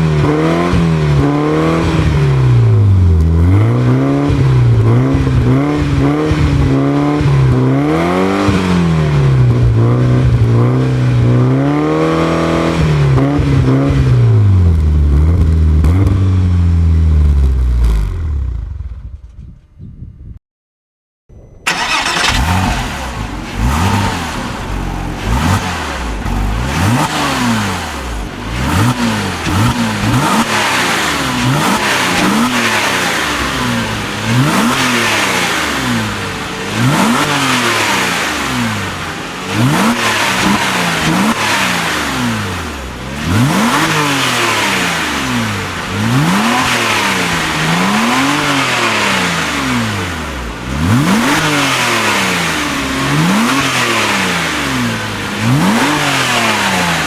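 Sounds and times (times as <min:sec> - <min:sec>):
car engine revving: 0:00.0 - 0:18.8, 0:21.6 - 0:57.0.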